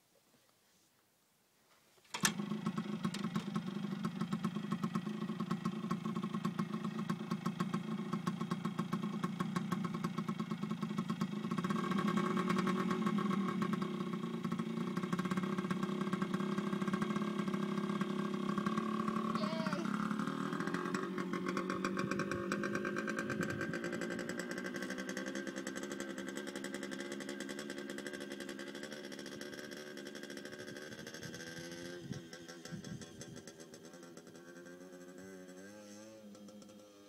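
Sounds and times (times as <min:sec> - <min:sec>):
two-stroke dirt bike engine idling: 0:02.2 - 0:37.0.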